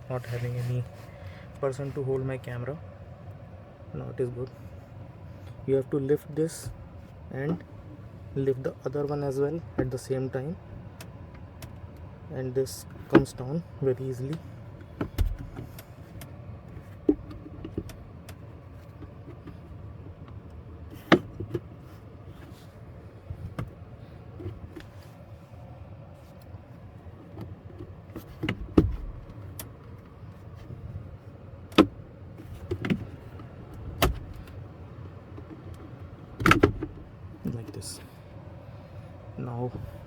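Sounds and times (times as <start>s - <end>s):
car engine low hum: 0.0s - 40.0s.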